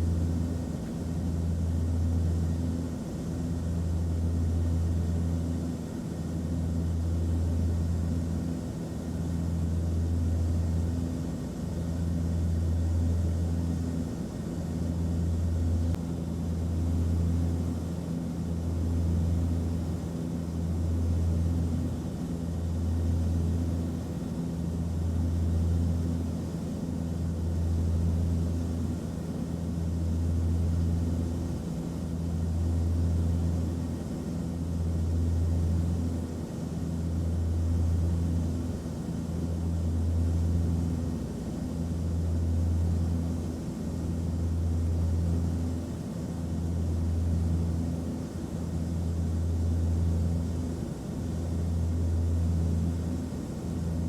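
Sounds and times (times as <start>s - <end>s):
airliner engine drone: 0.0s - 54.0s.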